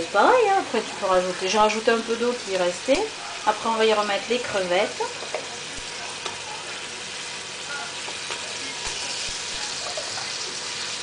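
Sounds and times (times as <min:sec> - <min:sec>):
sauce sizzling in frying pan: 0:00.0 - 0:11.0.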